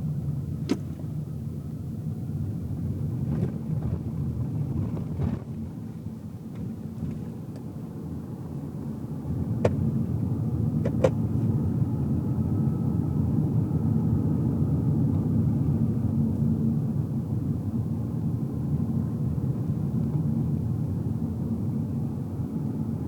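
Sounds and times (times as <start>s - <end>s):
engine and tyre rumble: 0.0s - 23.0s.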